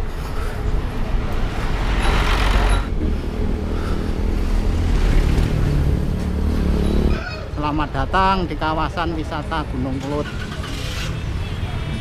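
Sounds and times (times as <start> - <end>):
low traffic rumble: 0.0 - 12.0
vehicle engines passing: 0.0 - 12.0.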